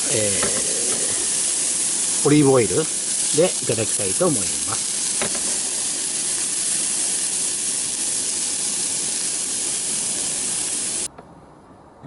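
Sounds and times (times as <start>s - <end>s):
food sizzling in a skillet: 0.0s - 11.1s.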